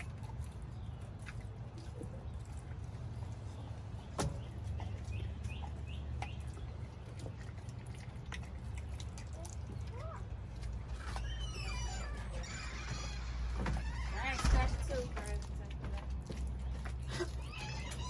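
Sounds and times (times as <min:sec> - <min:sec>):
dog chewing raw chicken: 0:00.0 - 0:18.0.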